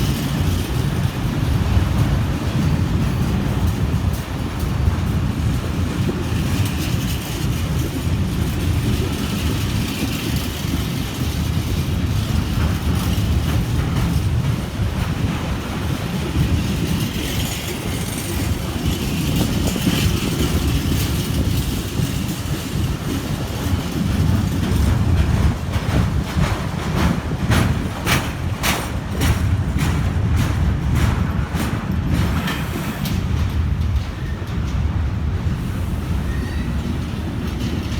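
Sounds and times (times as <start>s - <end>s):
wheel clicks over rail joints: 0.0s - 35.6s
train wheels rumbling on rail: 0.0s - 37.9s.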